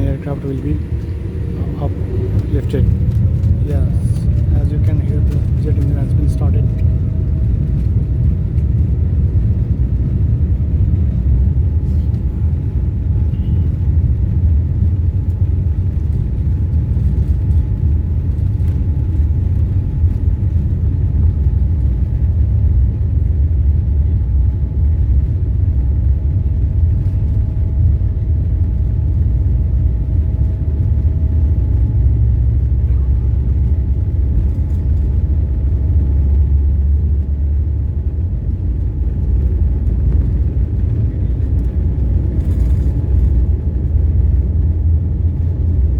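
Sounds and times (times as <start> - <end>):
faint engine whine: 0.0 - 45.9
jet engine rumble in cabin: 0.0 - 45.9.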